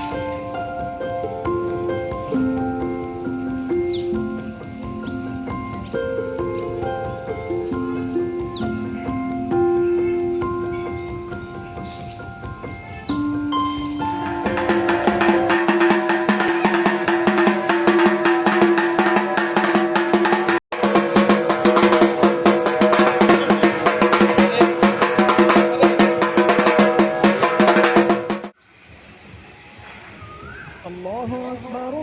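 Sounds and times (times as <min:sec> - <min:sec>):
fast dense drumming: 0:00.0 - 0:28.6.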